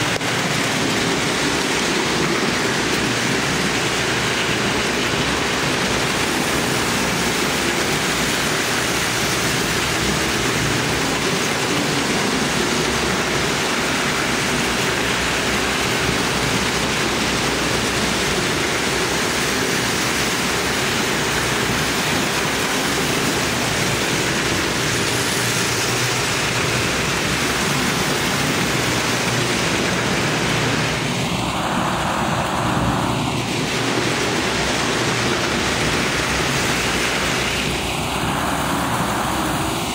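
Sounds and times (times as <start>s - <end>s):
toy trains whirring: 0.0s - 39.9s.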